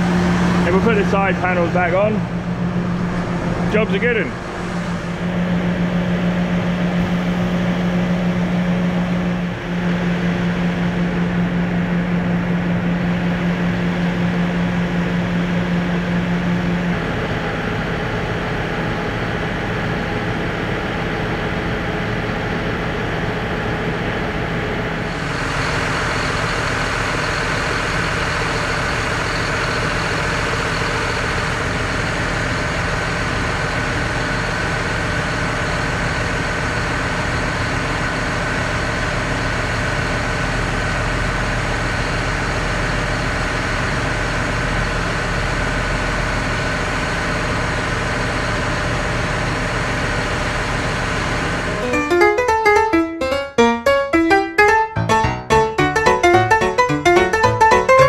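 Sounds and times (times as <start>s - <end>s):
diesel tractor engine idling: 0.0s - 53.0s.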